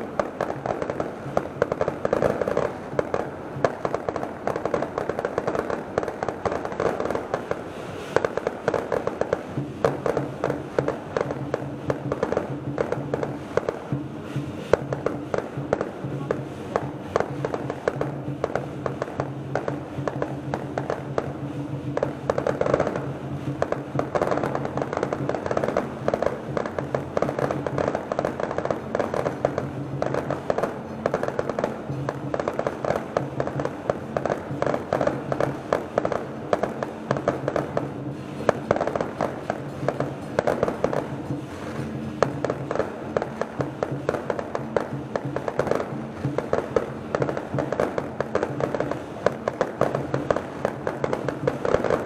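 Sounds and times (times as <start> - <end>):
fireworks crackling: 0.0 - 52.0.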